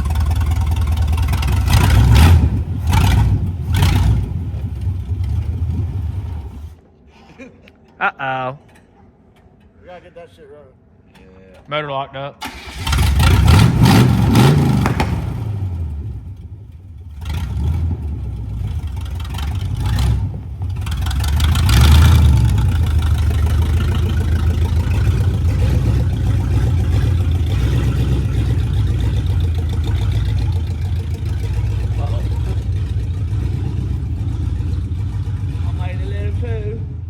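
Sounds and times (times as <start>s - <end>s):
vehicle engine revving: 0.0s - 6.8s, 12.4s - 37.0s.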